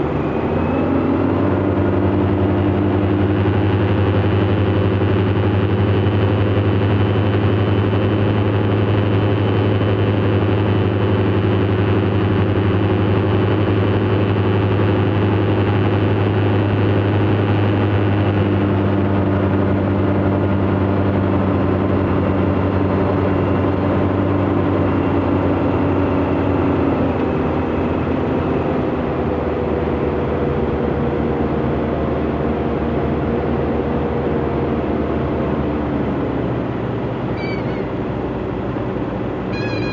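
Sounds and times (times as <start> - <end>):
propeller aircraft engine: 0.0 - 39.9.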